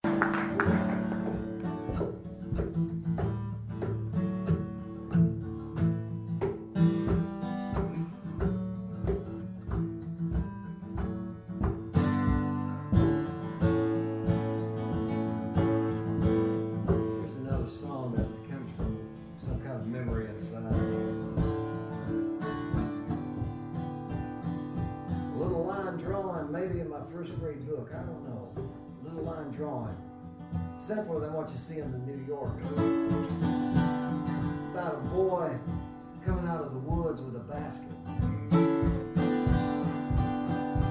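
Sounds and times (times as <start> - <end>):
acoustic guitar picking: 0.0 - 40.9.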